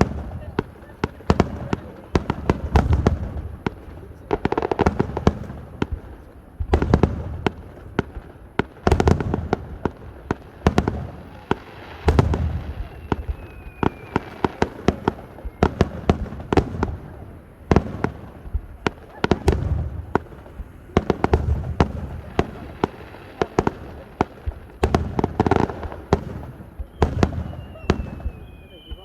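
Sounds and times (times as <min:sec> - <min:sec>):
fireworks booming: 0:00.0 - 0:29.0
fireworks crackling pops: 0:00.0 - 0:29.0.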